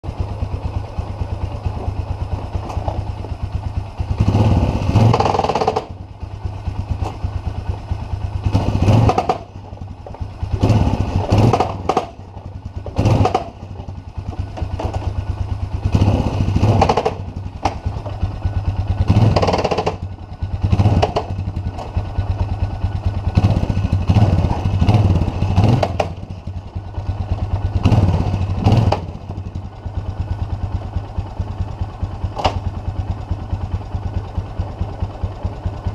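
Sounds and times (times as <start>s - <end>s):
atv engine idling and revving: 0.0s - 35.9s.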